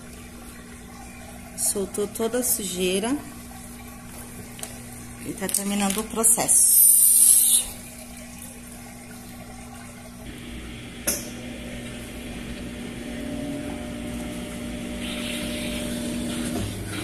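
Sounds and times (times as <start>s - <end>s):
washing machine motor hum: 0.0s - 17.0s
water noise: 0.0s - 17.0s.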